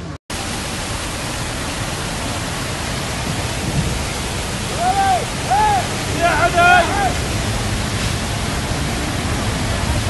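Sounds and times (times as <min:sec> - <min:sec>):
floodwater rushing: 0:00.3 - 0:10.0.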